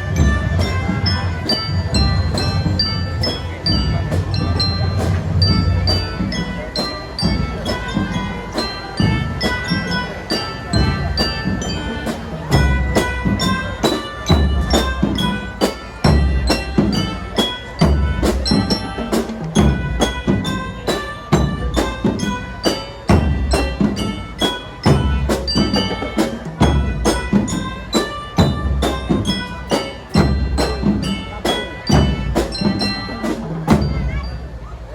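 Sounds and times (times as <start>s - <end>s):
bell-like mallet percussion: 0.0s - 34.9s
marching band playing: 0.0s - 34.9s.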